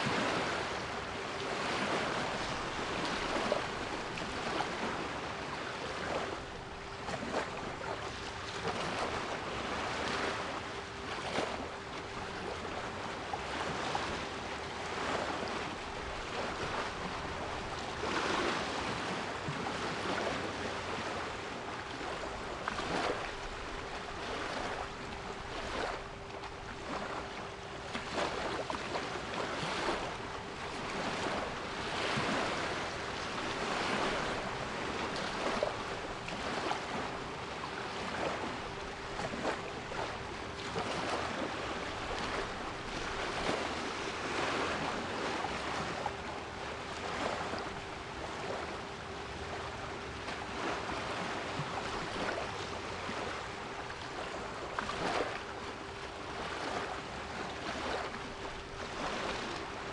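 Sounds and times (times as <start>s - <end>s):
sea waves washing: 0.0s - 48.8s, 49.4s - 59.9s.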